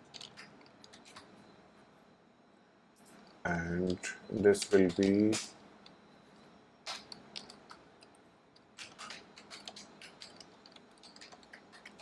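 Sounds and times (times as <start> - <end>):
faint keyboard typing: 0.0 - 1.4, 3.0 - 6.0, 6.8 - 12.0.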